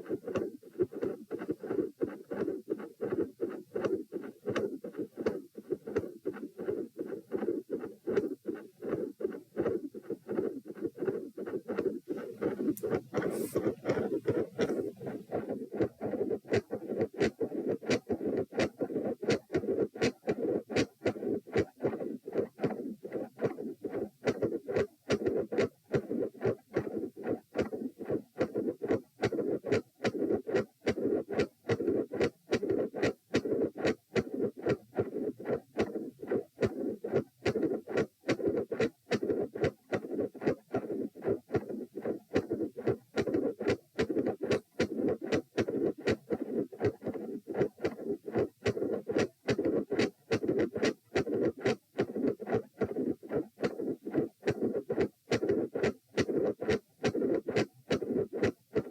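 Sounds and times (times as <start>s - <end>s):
heart murmur: 0.0s - 58.9s
heartbeat: 0.0s - 58.9s.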